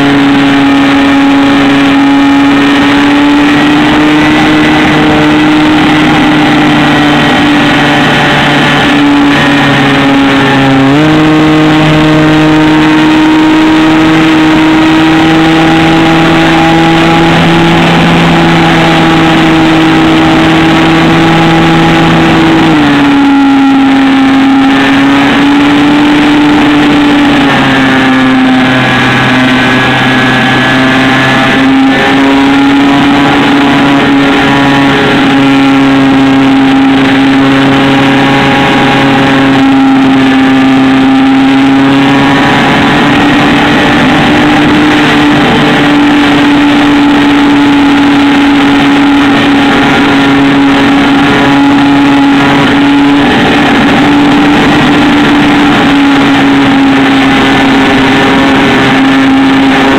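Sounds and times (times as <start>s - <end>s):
model airplane motor and propeller: 0.0s - 59.9s
rush of air: 0.0s - 59.9s.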